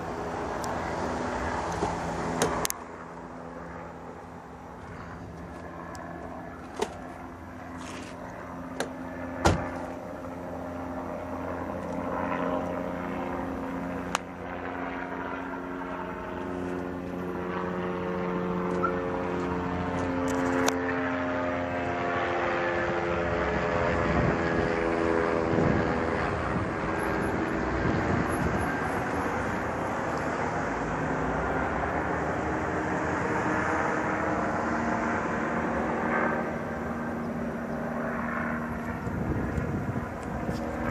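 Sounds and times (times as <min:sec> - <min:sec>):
helicopter flying overhead: 0:00.0 - 0:40.9.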